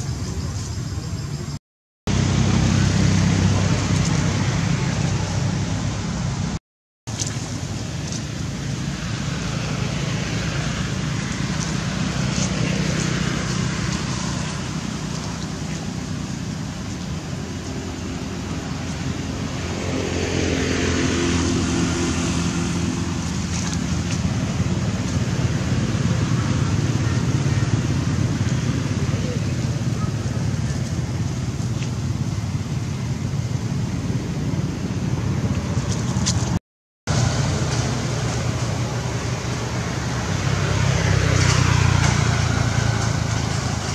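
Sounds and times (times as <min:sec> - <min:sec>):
steady traffic engine hum: 0:00.0 - 0:43.9
vehicles passing by: 0:00.0 - 0:43.9.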